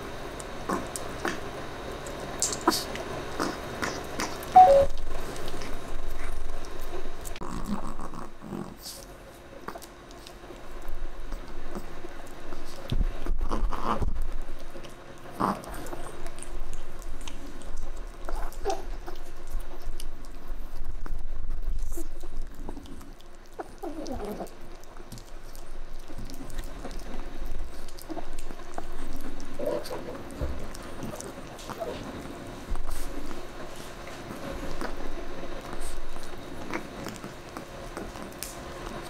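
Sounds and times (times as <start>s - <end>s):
dog chewing on bone: 0.3s - 39.0s.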